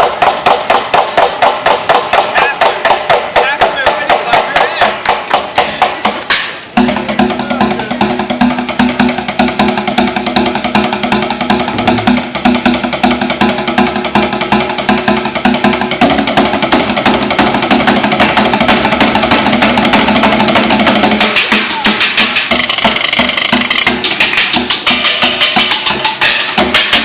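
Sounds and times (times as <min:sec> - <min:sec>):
rapid stick drumming: 0:00.0 - 0:27.0.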